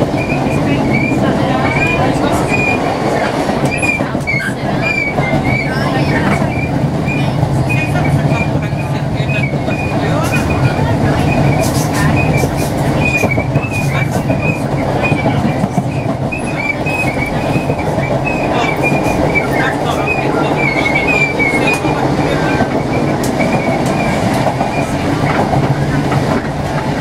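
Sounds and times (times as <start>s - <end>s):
train interior rumble: 0.0s - 27.0s
wheels squealing on rails: 0.0s - 27.0s.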